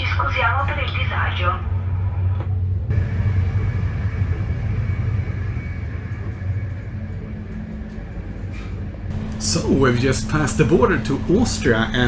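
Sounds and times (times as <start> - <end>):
train wheels rumbling on track: 2.3 - 12.0.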